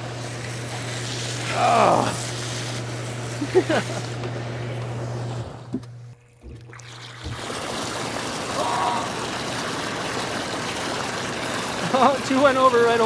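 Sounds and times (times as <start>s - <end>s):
hot tub jets churning water: 0.0s - 13.0s
low pump hum: 0.0s - 13.0s.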